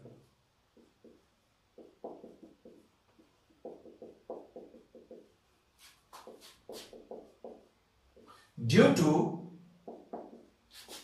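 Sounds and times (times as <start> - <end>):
marker writing on whiteboard: 0.0 - 8.5, 9.8 - 11.0.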